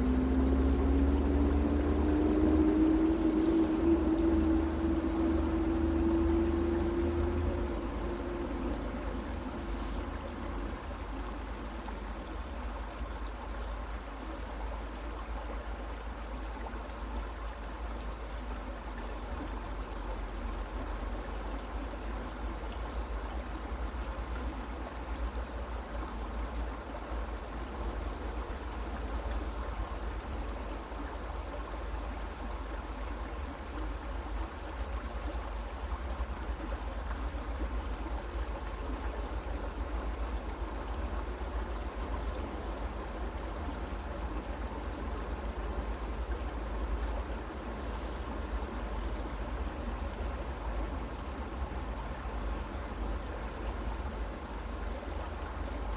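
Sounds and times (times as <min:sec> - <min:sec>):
creek water flowing: 0:00.0 - 0:55.9.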